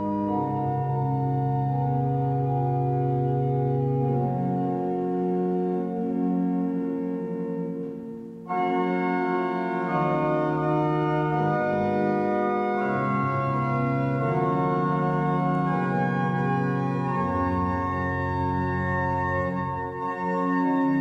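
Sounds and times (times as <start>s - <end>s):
organ playing chords: 0.0s - 21.0s.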